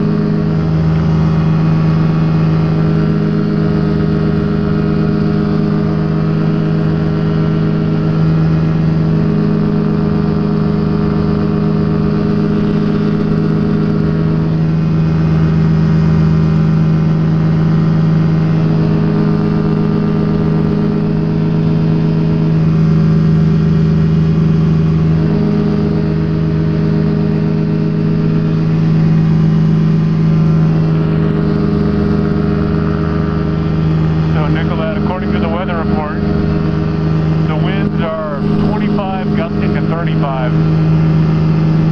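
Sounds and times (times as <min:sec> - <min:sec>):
ultralight aircraft engine running: 0:00.0 - 0:41.9.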